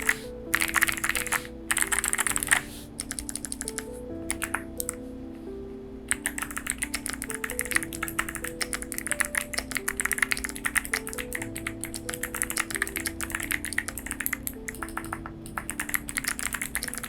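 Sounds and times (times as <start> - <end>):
mechanical keyboard typing: 0.0 - 5.0, 6.1 - 17.0.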